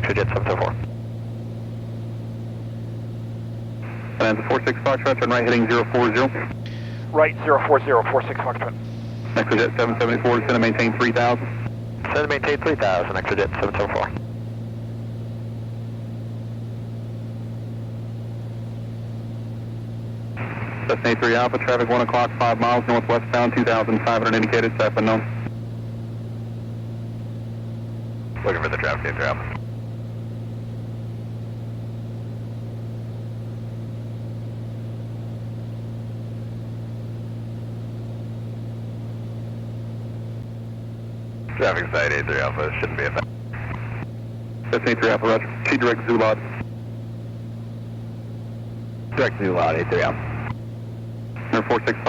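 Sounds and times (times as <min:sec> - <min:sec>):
propeller plane engine drone: 0:00.0 - 0:52.0.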